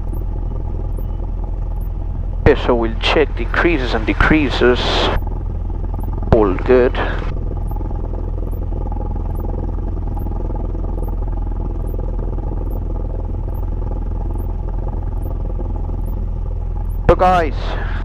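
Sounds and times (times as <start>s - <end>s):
airplane piston engine droning: 0.0s - 18.0s.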